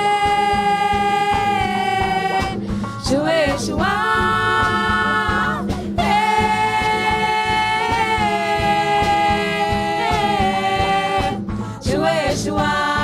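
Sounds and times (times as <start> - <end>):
bass: 0.0 - 13.0
congas: 0.0 - 13.0
drum kit: 0.0 - 13.0
women singing: 0.0 - 13.0.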